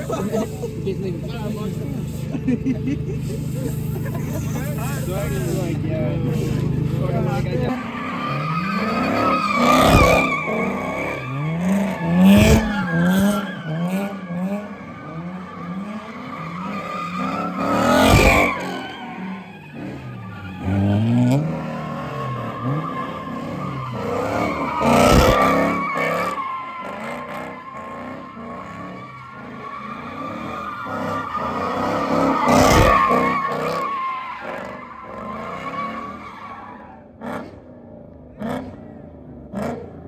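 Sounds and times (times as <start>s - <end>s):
car engine revving: 0.0s - 40.0s
car tyres squealing: 0.0s - 40.0s.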